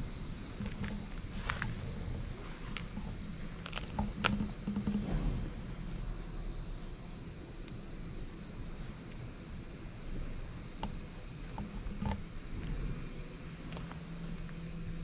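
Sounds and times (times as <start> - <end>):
insects droning: 0.0 - 15.0
low outdoor rumble: 0.0 - 15.0.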